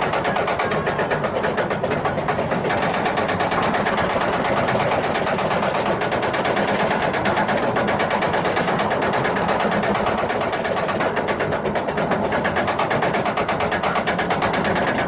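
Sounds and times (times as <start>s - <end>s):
rapid mechanical clatter: 0.0s - 15.0s.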